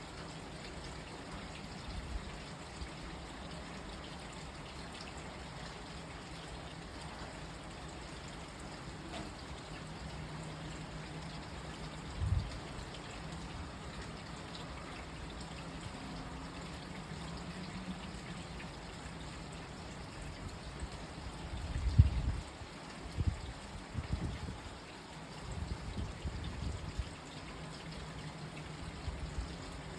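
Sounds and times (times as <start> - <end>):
water trickling: 0.0 - 29.9.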